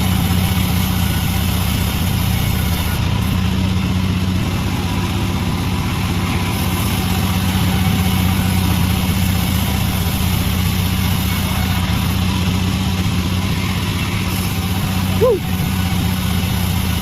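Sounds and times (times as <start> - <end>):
sawmill engine humming: 0.0 - 17.0.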